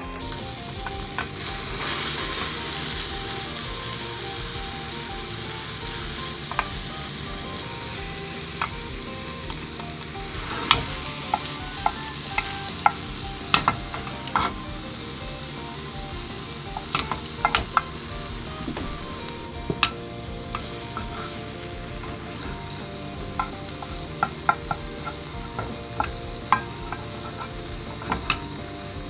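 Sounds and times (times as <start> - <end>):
egg sizzling in oil: 0.0 - 29.0
spatula tapping metal pan: 0.0 - 29.0.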